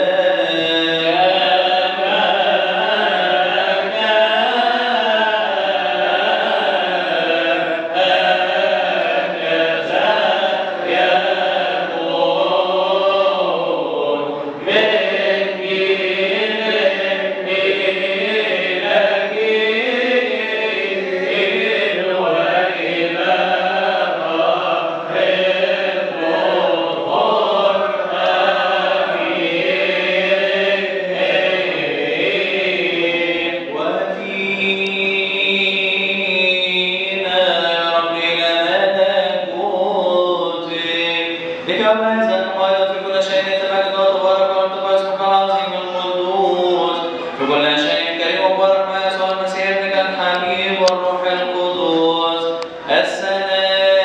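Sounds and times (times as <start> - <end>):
man singing a chant unaccompanied: 0.0 - 54.0.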